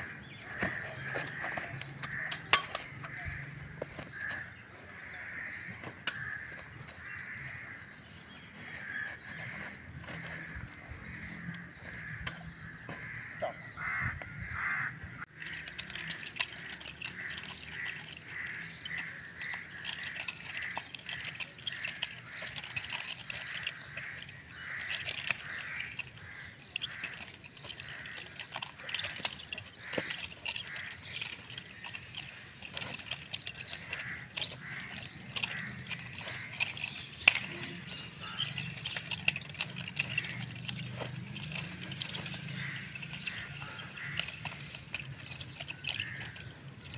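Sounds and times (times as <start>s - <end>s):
birds calling: 0.0s - 46.9s.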